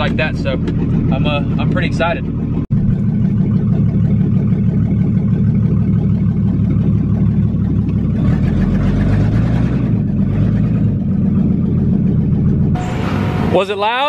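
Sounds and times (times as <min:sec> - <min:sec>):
pickup engine rumbling: 0:00.0 - 0:14.0.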